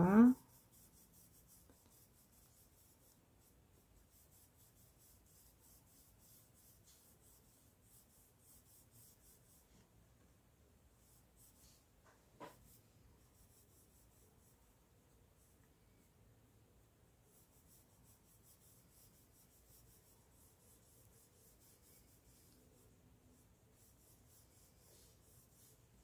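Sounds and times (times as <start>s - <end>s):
paintbrush scratching on fabric: 0.0s - 9.9s, 10.9s - 26.0s.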